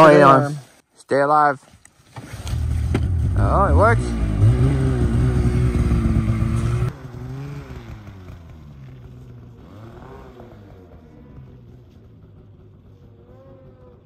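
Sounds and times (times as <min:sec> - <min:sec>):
snowmobile engine: 0:00.0 - 0:00.6, 0:02.3 - 0:14.0.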